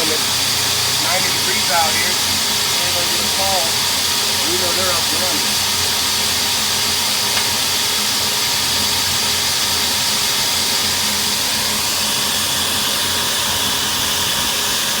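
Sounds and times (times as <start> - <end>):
hose water spraying: 0.0 - 15.0.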